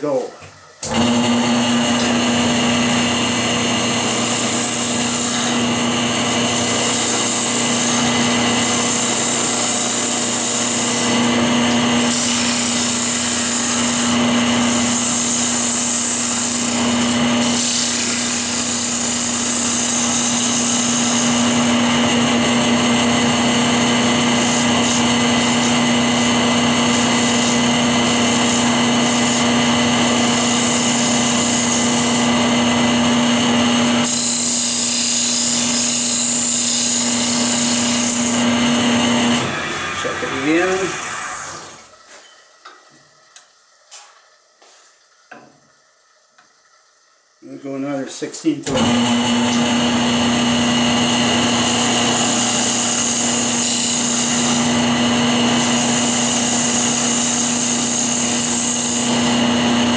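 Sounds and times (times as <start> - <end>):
turning tool hissing and scraping wood: 0.0 - 42.7, 47.5 - 59.9
wood lathe motor hum: 0.8 - 42.1, 48.6 - 59.9.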